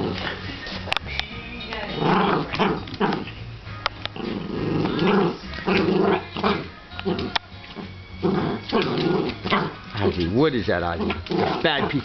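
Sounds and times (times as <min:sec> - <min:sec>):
dog growling playfully: 0:00.0 - 0:00.5, 0:01.9 - 0:12.0.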